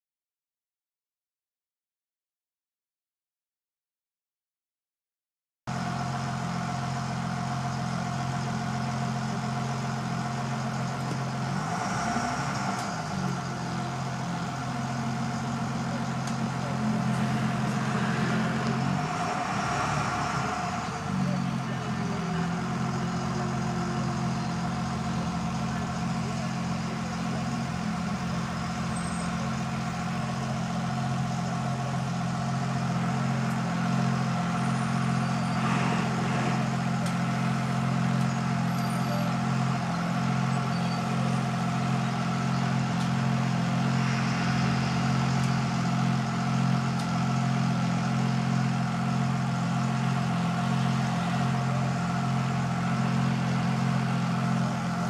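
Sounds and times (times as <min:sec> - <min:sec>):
engine humming steadily: 0:05.7 - 0:55.0.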